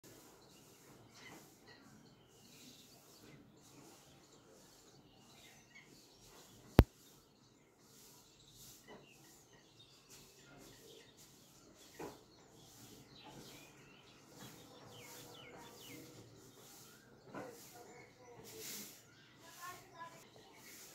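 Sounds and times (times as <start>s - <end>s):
faint bird chirps: 0.1s - 20.9s.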